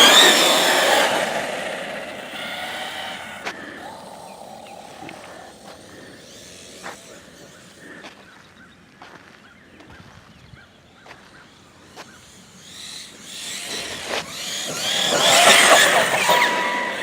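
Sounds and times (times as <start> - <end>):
rc truck motor whining: 0.0 - 8.3, 11.4 - 17.0.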